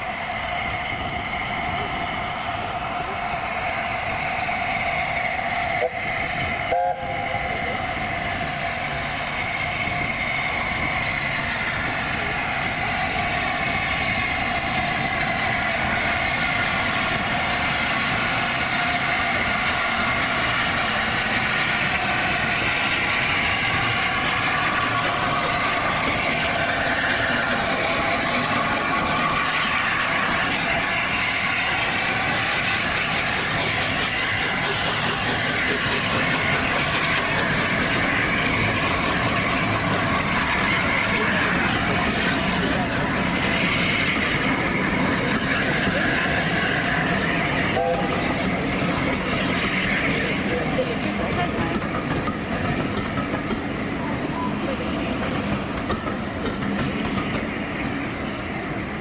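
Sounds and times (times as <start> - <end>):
steam hiss: 0.0 - 59.0
steam train rumbling on rails: 0.0 - 59.0.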